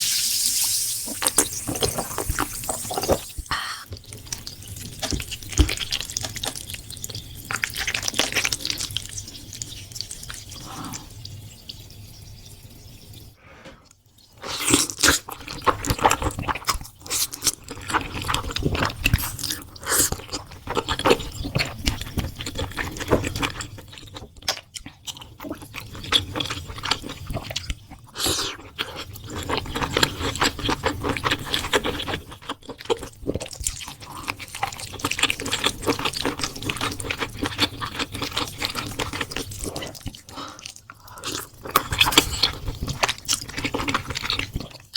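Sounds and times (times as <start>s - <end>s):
person chewing food: 1.1s - 11.1s, 13.8s - 44.9s.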